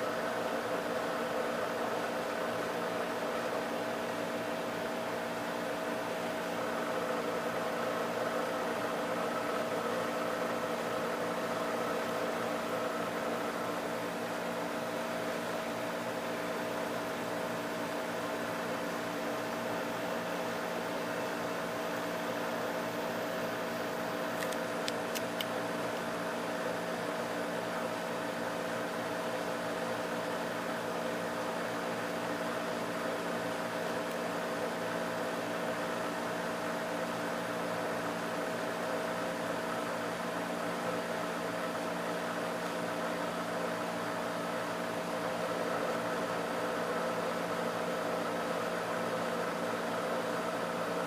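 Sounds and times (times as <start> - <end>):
air conditioner humming: 0.0 - 51.0.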